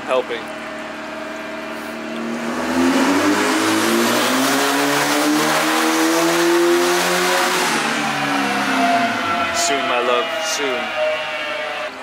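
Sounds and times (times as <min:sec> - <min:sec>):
car engine revving: 0:00.8 - 0:12.0.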